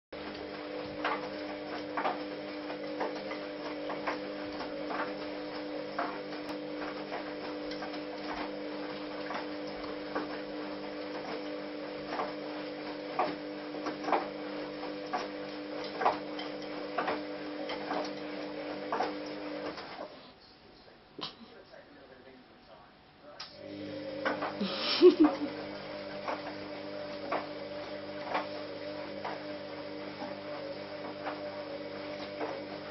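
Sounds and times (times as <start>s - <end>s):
washing machine motor hum: 0.1s - 21.8s, 23.4s - 32.9s.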